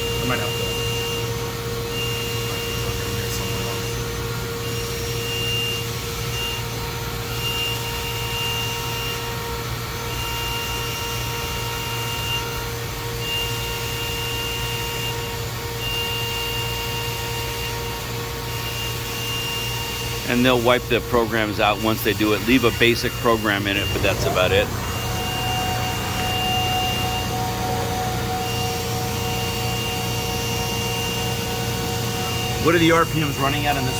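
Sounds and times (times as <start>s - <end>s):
high machine whine: 0.0s - 33.9s
machining center whirring: 0.0s - 33.9s.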